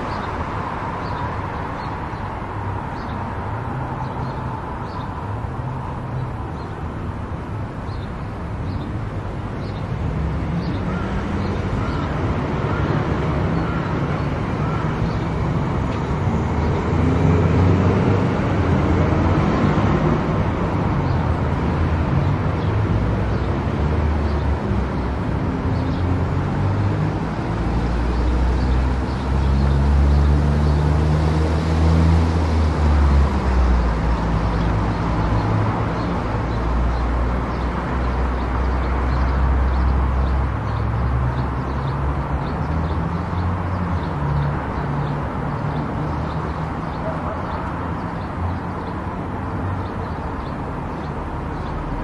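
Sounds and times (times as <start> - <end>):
road and tyre noise: 0.0 - 52.0.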